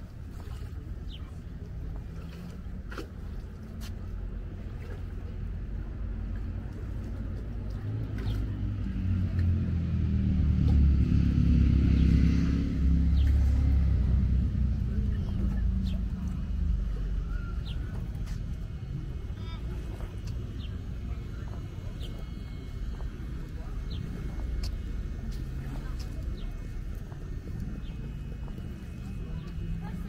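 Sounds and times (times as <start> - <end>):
engine rumble passing by: 0.0 - 30.0.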